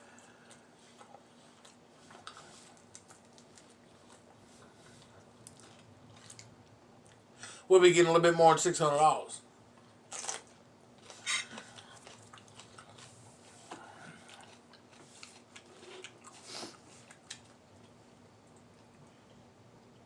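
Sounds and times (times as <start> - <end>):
chewing crunchy food: 0.0 - 7.3, 9.7 - 19.1.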